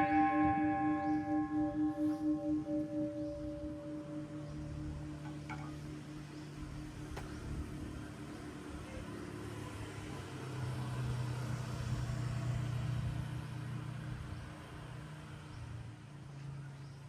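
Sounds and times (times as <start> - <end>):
vehicle engine hum passing: 0.0 - 17.0.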